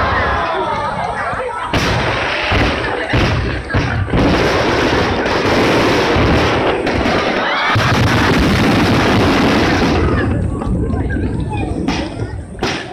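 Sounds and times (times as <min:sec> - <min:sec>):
fireworks barrage crackling: 0:00.0 - 0:12.9.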